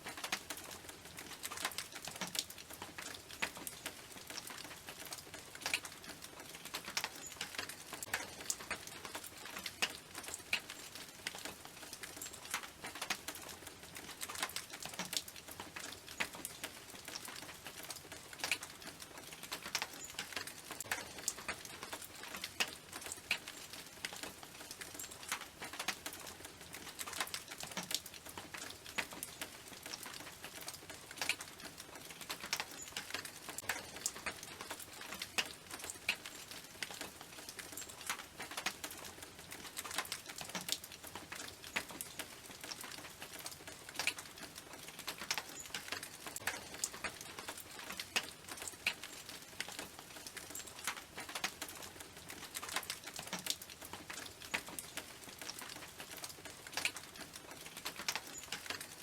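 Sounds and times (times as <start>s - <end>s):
raindrops ticking on metal roof: 0.0s - 59.0s.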